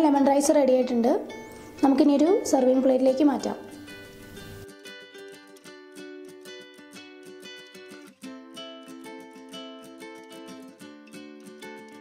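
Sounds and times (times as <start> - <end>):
plucked guitar melody: 0.8 - 12.0.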